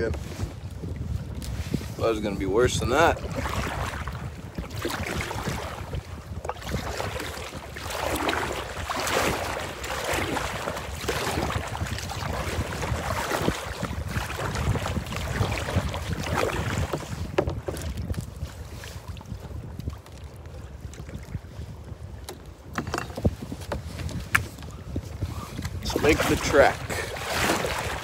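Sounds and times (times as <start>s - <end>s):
water splashing against kayak: 0.0s - 28.0s
wind buffeting microphone: 0.0s - 28.0s.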